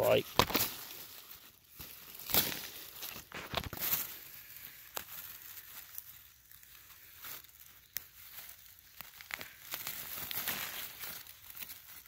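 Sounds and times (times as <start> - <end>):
hand scraping soil and leaves: 0.0 - 12.0.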